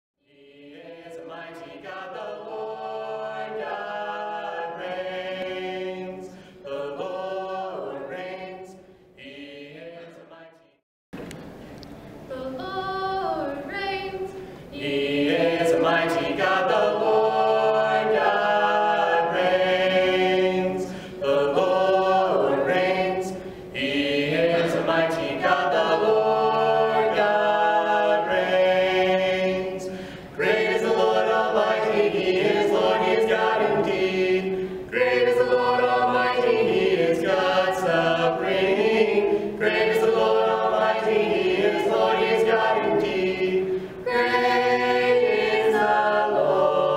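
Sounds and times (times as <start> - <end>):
vocal quartet singing a cappella: 0.2 - 10.8, 12.3 - 46.9.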